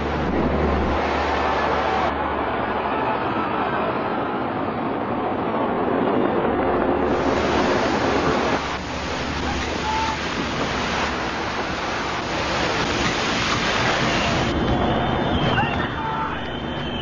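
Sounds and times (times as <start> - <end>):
loud rushing debris cloud: 0.0 - 4.2, 5.3 - 17.0.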